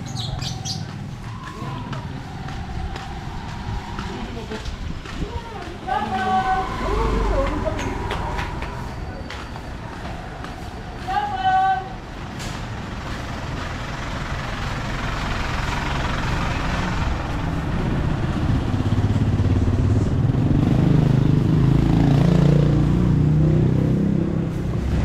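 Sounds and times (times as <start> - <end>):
motor vehicle engine passing: 0.0 - 25.0
vehicle rushing by: 0.0 - 25.0.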